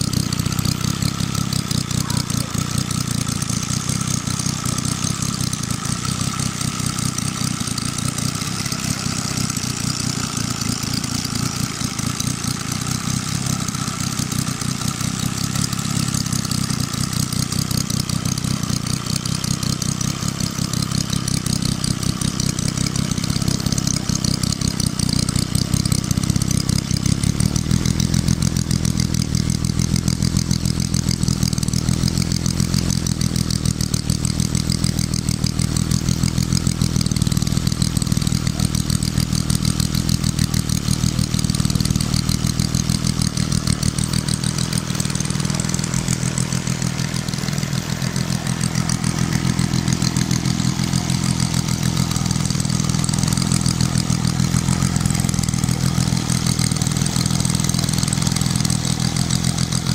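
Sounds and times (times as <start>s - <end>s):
model diesel engine running: 0.0s - 59.9s.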